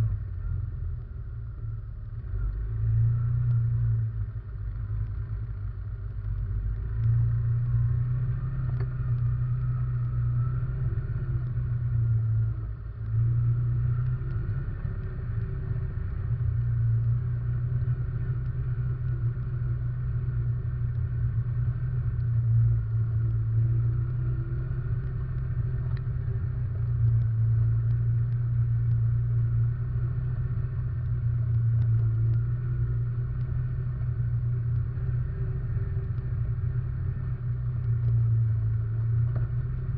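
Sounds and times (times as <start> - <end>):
quad bike engine droning: 0.0 - 39.9.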